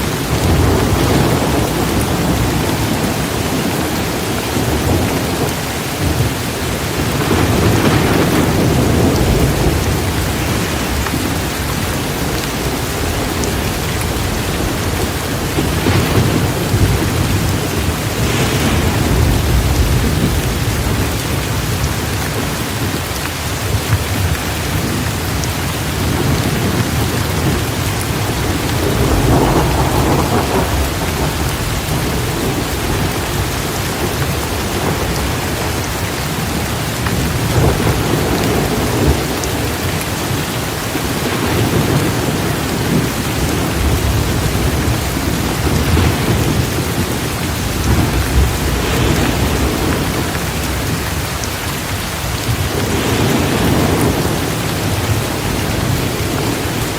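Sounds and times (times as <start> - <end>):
rolling thunder: 0.0 - 56.9
torrential rain pouring: 0.0 - 56.9.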